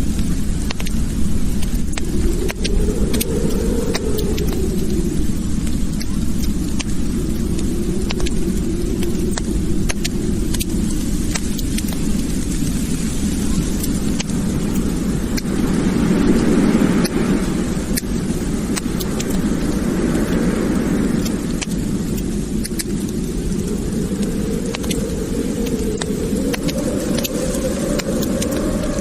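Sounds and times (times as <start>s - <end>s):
wood fire roaring and crackling: 0.0s - 29.0s.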